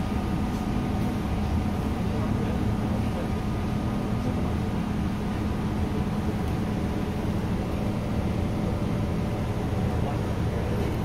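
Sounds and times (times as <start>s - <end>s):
bus engine drone from inside: 0.0s - 11.0s.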